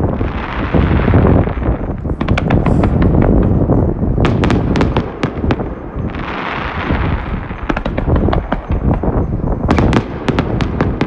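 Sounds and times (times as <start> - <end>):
firework booms: 0.0 - 11.0
firework cracks: 0.0 - 11.0
hissing crackle: 0.0 - 11.0.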